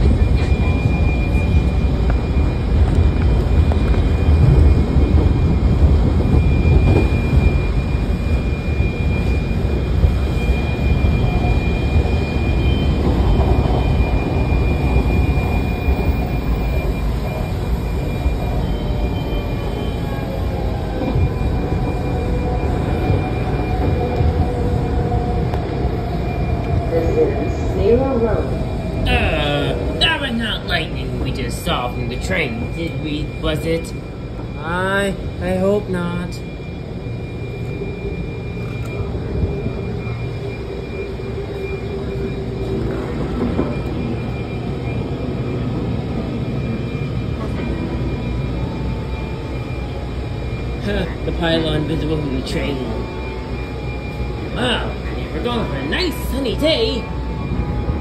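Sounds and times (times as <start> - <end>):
faint steady whine: 0.0 - 58.0
train wheels rumbling on rail: 0.0 - 58.0.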